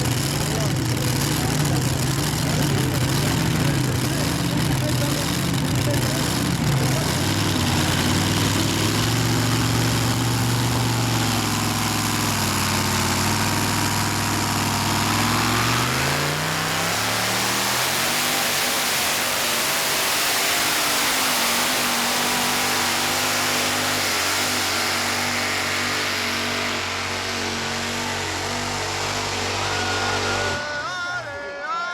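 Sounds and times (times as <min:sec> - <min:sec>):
tractor engine revving: 0:00.0 - 0:31.7.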